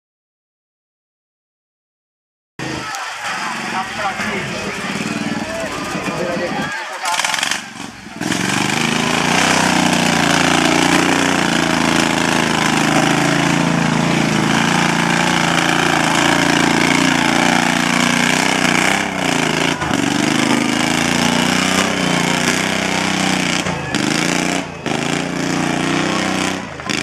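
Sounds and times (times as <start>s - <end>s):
ride-on lawn mower engine: 2.6s - 27.0s.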